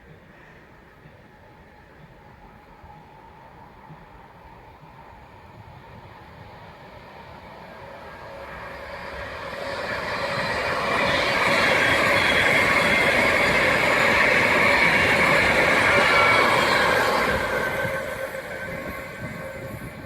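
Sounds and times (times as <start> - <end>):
train wheels on track: 0.0 - 20.0.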